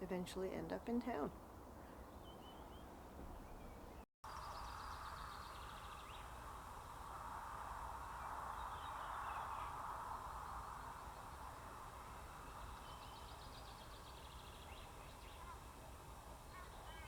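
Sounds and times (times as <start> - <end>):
songbirds singing: 1.8 - 6.5, 8.0 - 17.0.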